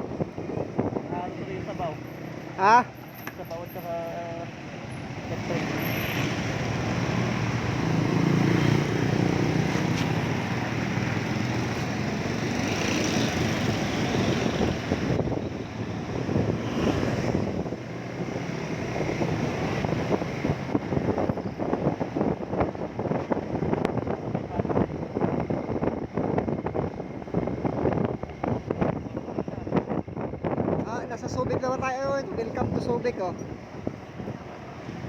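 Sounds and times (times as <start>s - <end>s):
wind buffeting microphone: 0.0s - 2.0s, 6.4s - 35.0s.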